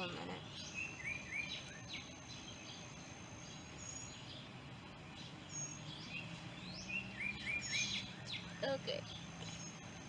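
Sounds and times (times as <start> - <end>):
small birds chirping: 0.0 - 10.0
steady background hiss: 0.0 - 10.0.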